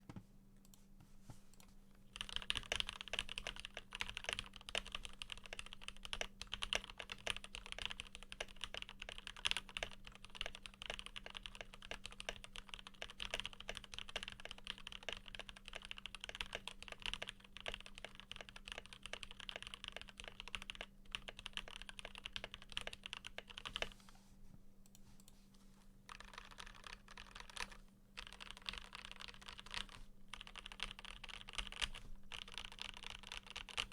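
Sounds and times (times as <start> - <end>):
mechanical keyboard typing: 2.1 - 24.0, 26.1 - 33.9.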